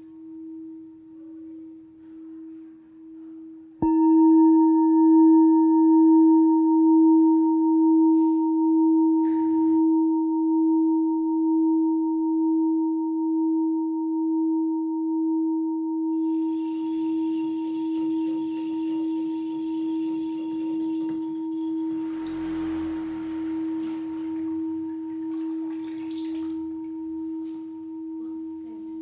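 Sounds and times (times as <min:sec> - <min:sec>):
deep bell-like tone: 0:00.0 - 0:29.0.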